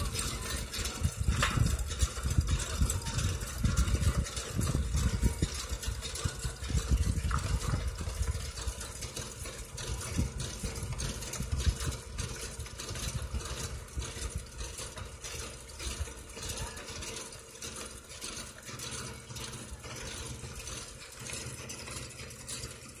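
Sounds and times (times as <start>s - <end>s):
tractor engine rumbling: 0.0s - 23.0s.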